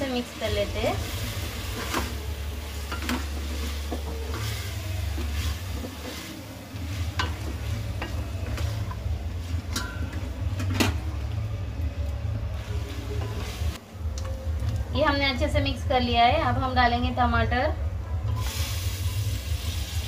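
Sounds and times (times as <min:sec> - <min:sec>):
oil sizzling: 0:00.0 - 0:14.7, 0:18.3 - 0:20.0.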